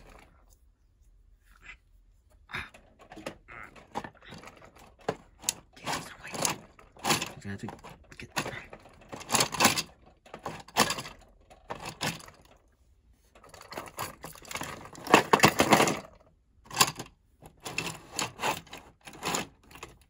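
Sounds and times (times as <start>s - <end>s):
plastic toy pieces clattering: 2.7s - 12.6s, 13.4s - 20.0s.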